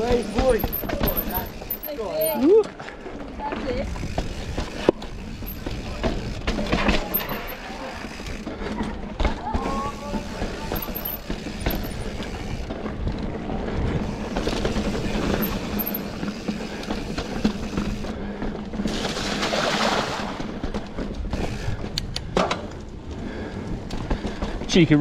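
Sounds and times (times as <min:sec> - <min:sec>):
bike tyres and frame rattling: 0:00.0 - 0:25.0.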